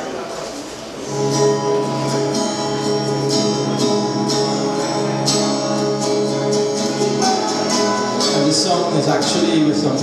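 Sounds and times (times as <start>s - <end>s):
guitar strumming chords: 1.0s - 10.0s.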